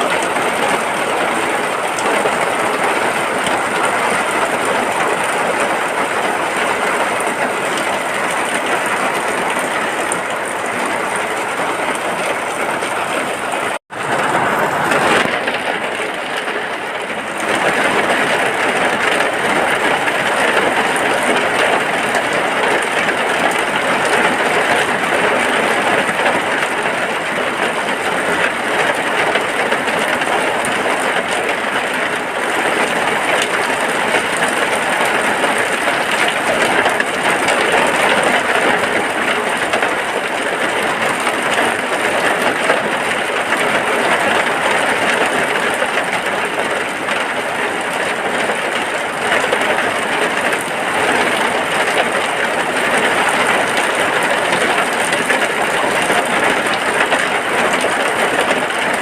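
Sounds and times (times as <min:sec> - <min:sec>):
rain falling on a hut: 0:00.0 - 0:59.0.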